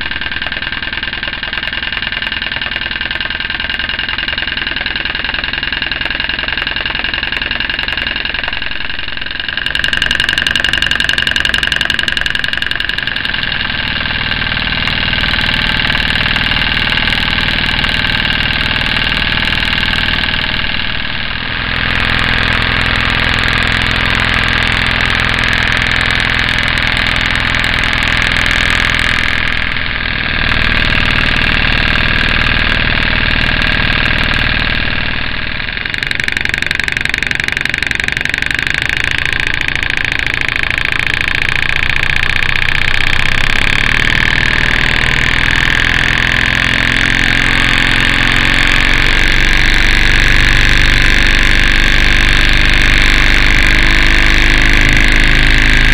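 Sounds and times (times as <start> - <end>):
model steam engine exhaust beat: 0.0 - 55.9.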